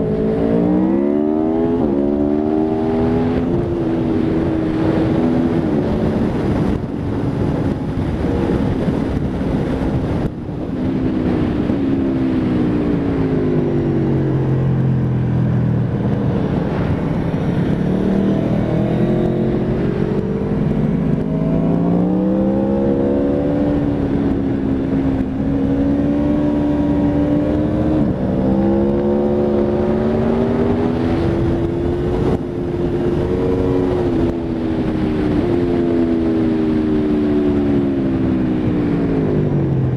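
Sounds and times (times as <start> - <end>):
motorcycle engine shifting gears: 0.0 - 39.9
wind rush: 0.0 - 39.9.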